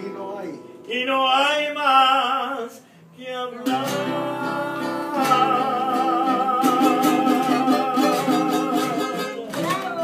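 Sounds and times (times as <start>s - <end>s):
acoustic guitars strumming: 0.0s - 10.0s
men singing with vibrato: 0.9s - 10.0s.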